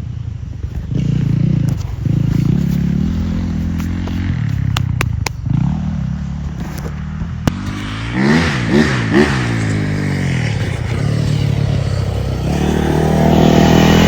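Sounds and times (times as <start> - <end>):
motocross bike engine revving: 0.8 - 14.0.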